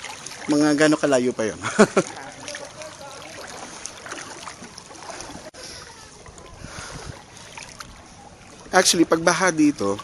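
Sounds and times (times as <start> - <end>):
floodwater sloshing and splashing: 0.0 - 10.0.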